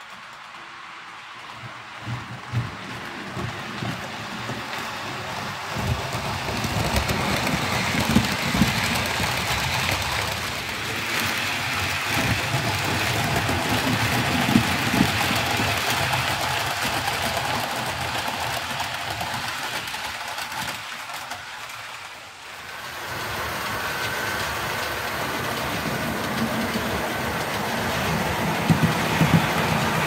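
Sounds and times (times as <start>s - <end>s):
model train rattling over rails: 0.0s - 30.0s.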